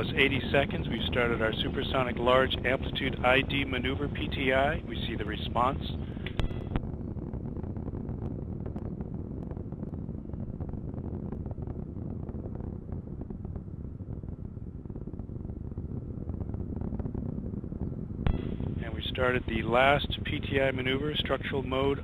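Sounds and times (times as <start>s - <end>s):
distant rocket motor rumbling: 0.0s - 22.0s.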